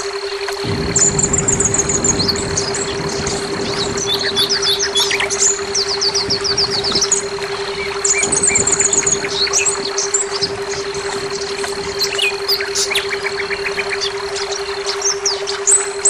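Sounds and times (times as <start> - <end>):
steady low hum: 0.0 - 16.0
thin steady high tone: 0.0 - 16.0
thrush singing: 0.3 - 16.0.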